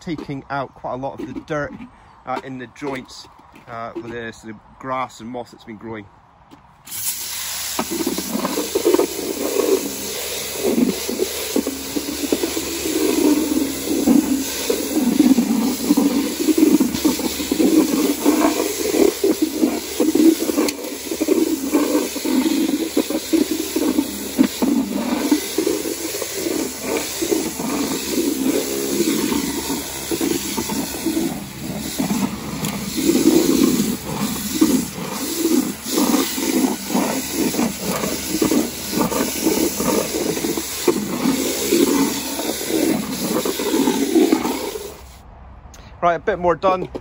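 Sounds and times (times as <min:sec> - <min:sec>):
pressure washer spraying paving: 0:06.9 - 0:45.2.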